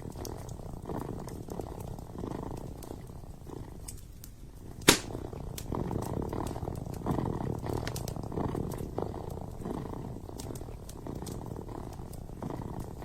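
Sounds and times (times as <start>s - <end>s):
kitten purring: 0.0s - 13.0s
wood fire crackling: 0.0s - 13.0s.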